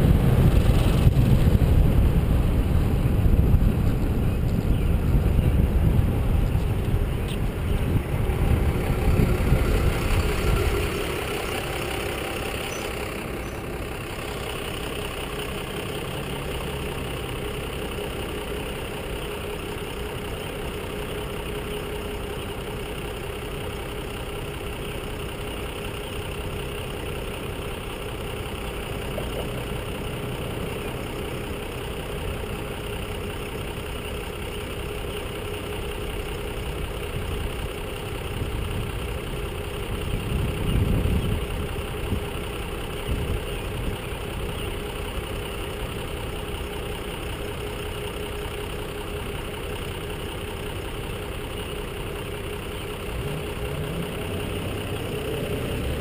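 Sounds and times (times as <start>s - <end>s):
other vehicles idling: 0.0s - 56.0s
truck engine idling: 0.0s - 56.0s.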